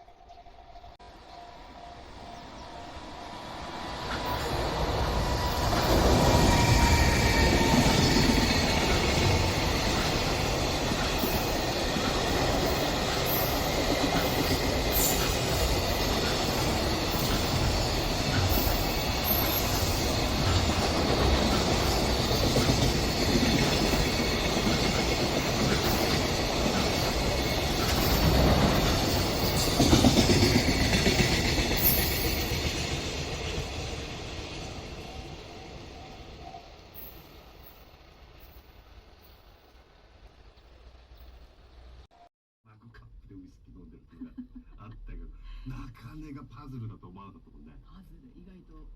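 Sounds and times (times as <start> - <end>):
train wheels on rail: 1.0 - 42.1.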